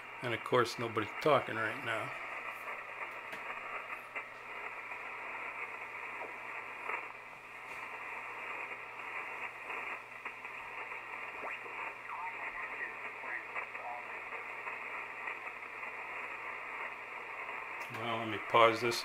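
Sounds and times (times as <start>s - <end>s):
radio static hiss: 0.0s - 19.0s
faint crackles: 0.1s - 19.0s.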